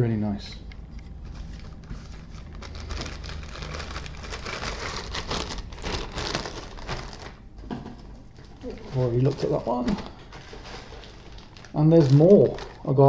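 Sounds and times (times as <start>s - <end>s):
packaging crinkling: 1.0s - 7.4s, 8.1s - 13.0s.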